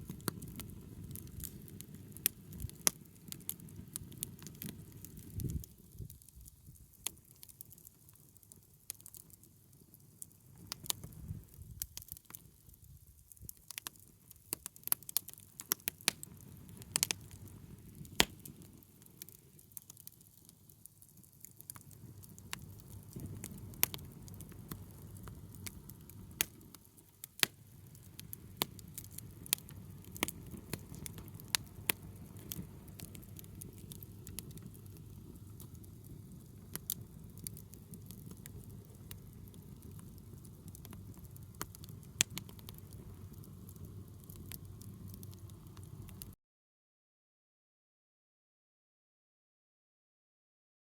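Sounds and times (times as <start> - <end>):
wood fire crackling: 0.0 - 46.4.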